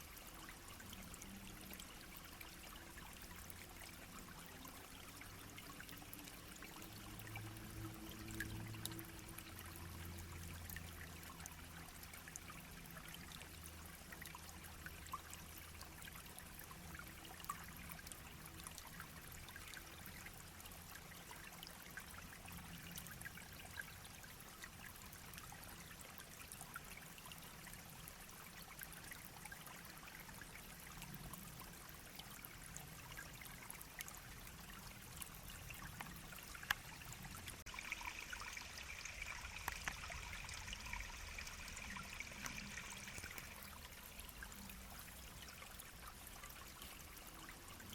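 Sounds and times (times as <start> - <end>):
brook babbling: 0.0 - 47.9.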